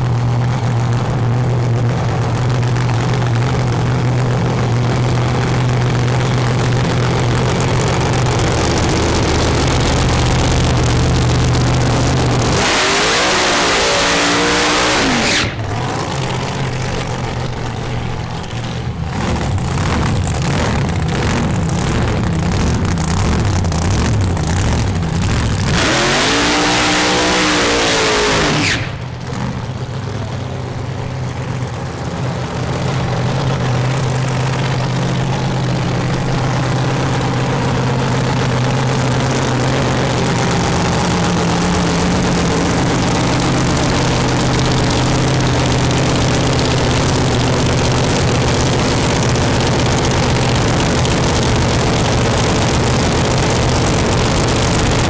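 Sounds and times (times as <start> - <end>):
drag car engine accelerating: 0.0 - 55.0
drag car engine idling: 0.0 - 55.0.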